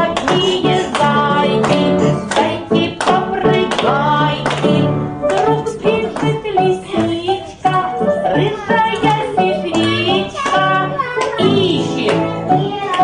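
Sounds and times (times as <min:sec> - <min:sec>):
children's song singing: 0:00.0 - 0:13.0
instrumental accompaniment: 0:00.0 - 0:13.0.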